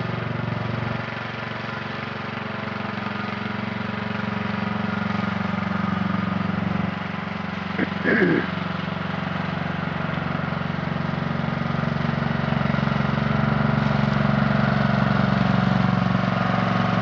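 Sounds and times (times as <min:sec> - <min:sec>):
riding lawn mower engine running: 0:00.0 - 0:17.0.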